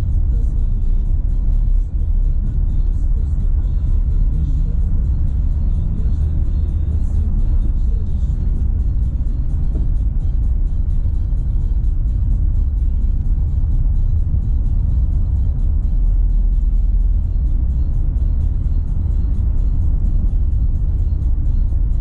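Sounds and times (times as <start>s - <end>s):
car tyres rumbling on dirt road: 0.0s - 22.0s
music playing: 0.0s - 22.0s.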